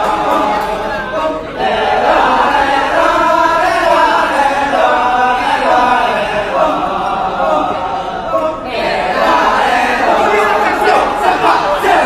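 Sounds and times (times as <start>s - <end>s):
chorus of voices chanting: 0.0s - 12.0s.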